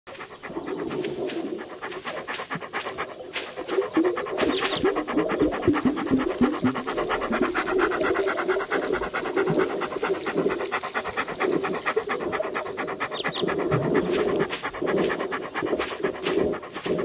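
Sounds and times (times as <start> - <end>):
dog panting rapidly: 0.1 - 17.0.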